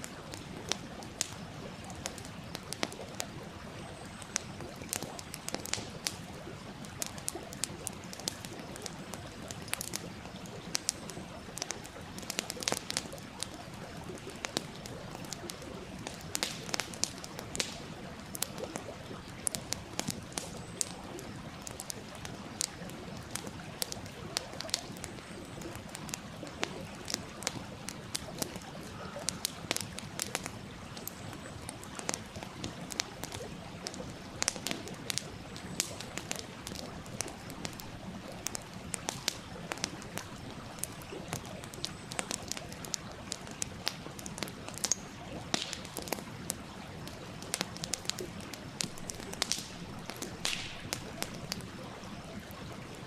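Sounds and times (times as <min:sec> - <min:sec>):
campfire wood crackling: 0:00.0 - 0:53.0.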